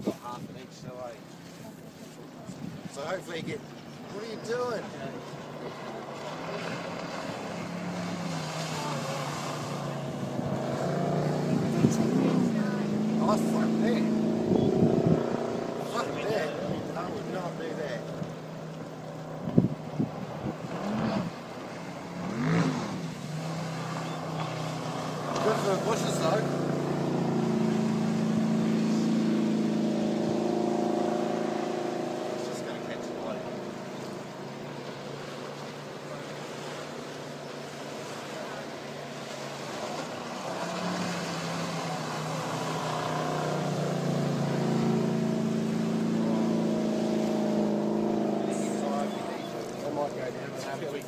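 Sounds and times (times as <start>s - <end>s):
motorboat engine revving: 0.0s - 51.0s.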